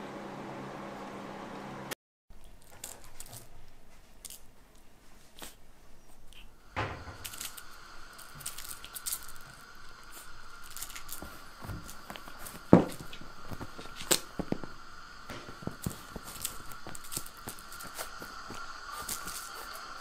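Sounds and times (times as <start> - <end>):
soft rustling: 2.4 - 20.0.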